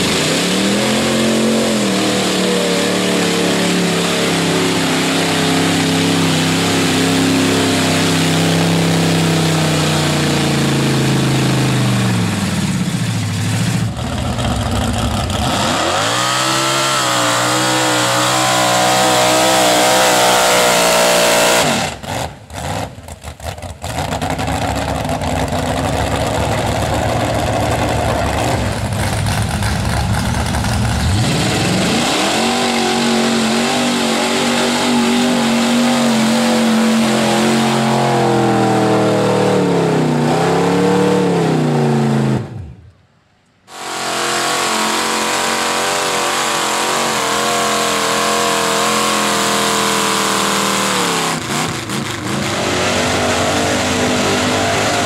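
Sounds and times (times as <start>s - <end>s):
truck engines revving: 0.0s - 42.9s, 43.7s - 55.0s.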